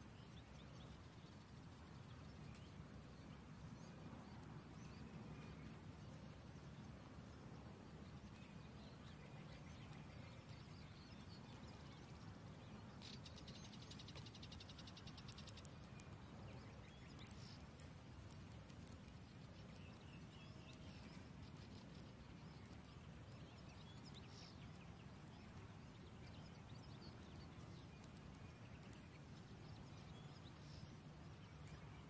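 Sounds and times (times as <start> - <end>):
faint high bird chirps: 0.0 - 17.9, 18.8 - 32.0.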